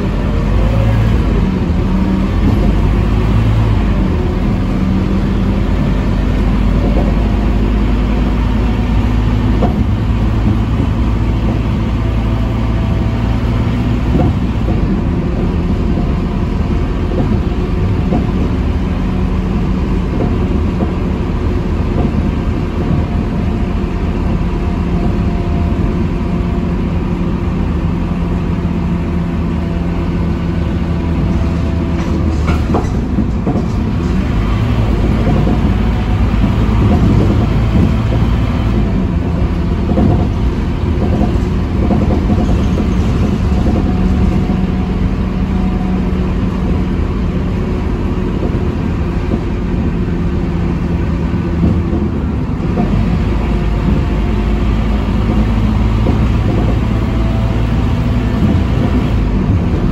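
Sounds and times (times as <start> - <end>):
diesel bus engine running: 0.0 - 59.9
road and tyre noise: 0.0 - 59.9.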